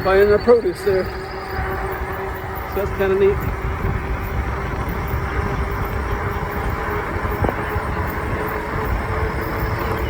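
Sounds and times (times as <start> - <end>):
tyres rolling hum: 0.0 - 10.0
wind rushing over microphone: 0.0 - 10.0.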